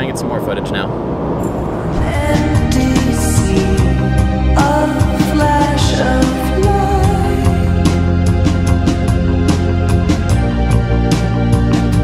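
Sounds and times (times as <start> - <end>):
background music with beat: 2.0 - 12.0.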